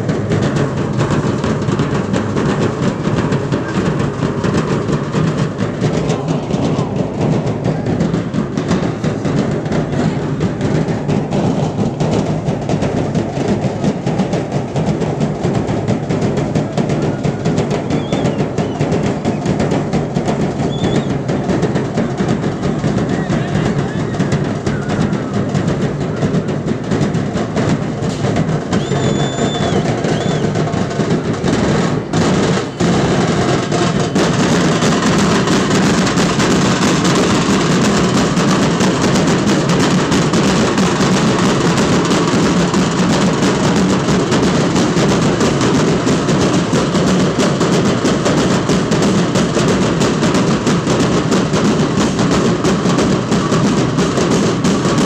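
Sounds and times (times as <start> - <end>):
barrel drums beaten with sticks: 0.0 - 55.0.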